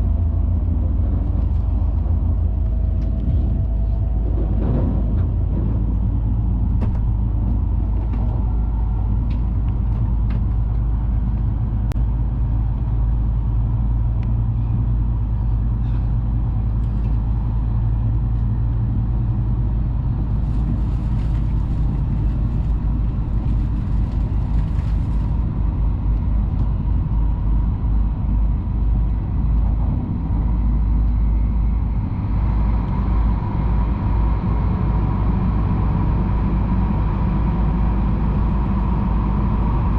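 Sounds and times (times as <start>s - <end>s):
train cabin low rumble: 0.0s - 39.9s.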